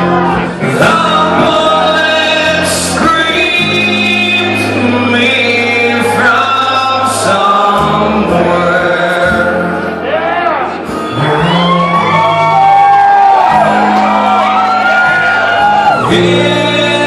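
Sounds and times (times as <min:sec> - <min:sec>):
man singing: 0:00.0 - 0:10.1, 0:10.9 - 0:13.0, 0:15.1 - 0:17.0
bass line: 0:00.0 - 0:17.0
guitar: 0:00.0 - 0:17.0.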